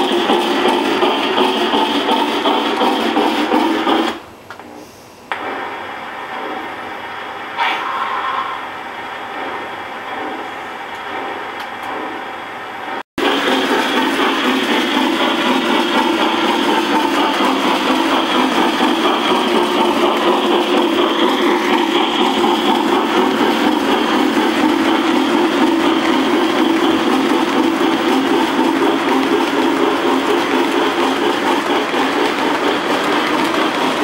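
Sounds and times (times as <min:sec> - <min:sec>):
model train rolling on track: 0:00.0 - 0:04.2, 0:05.4 - 0:34.0.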